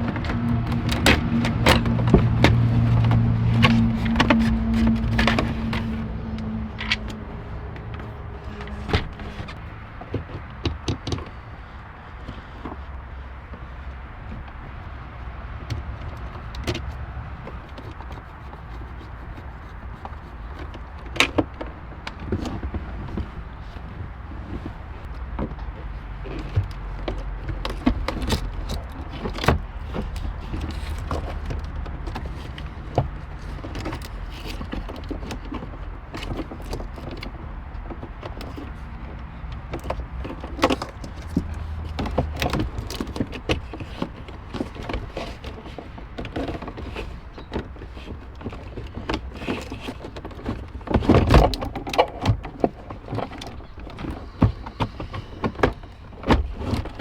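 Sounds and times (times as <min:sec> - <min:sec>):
plastic parts clicking and rattling: 0:00.0 - 0:57.0.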